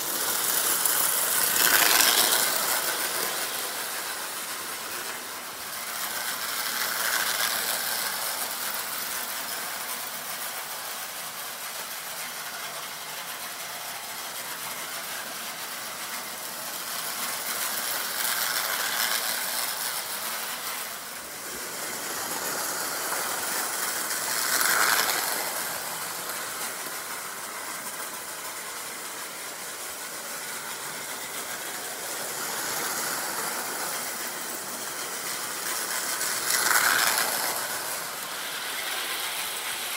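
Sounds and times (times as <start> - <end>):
toy train running on metal track: 0.0 - 39.9.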